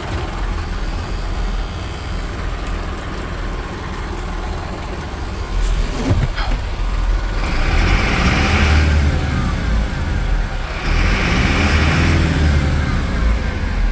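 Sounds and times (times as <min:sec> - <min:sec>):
truck diesel engine running: 0:00.0 - 0:13.9.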